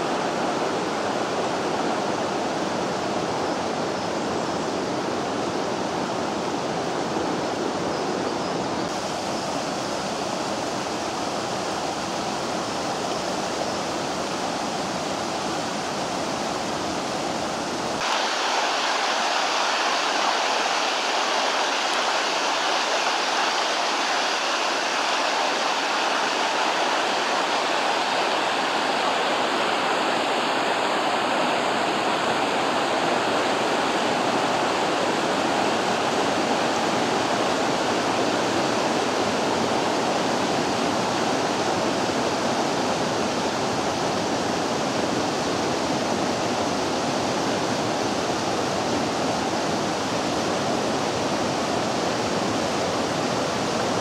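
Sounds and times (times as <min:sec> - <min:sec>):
mountain river rushing: 0:00.0 - 0:54.0.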